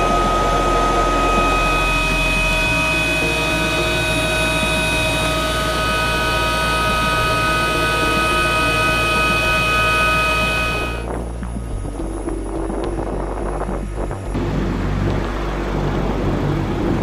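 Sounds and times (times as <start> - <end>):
helicopter low drone: 0.0 - 17.0
helicopter turbine whine: 0.0 - 17.0.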